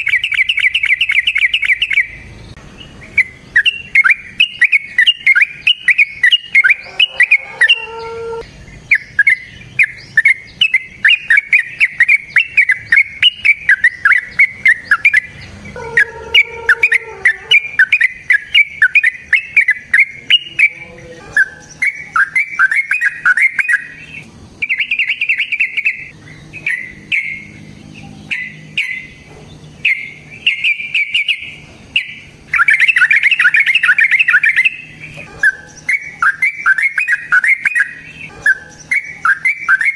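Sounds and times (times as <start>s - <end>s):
bulbul rapid chirping: 0.0s - 8.0s, 8.7s - 27.7s, 29.8s - 39.9s.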